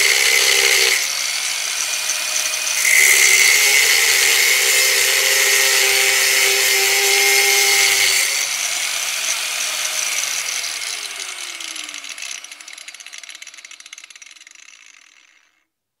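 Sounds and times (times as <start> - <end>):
angle grinder cutting sheet metal: 0.0 - 15.5
grinder motor winding down: 0.0 - 15.6.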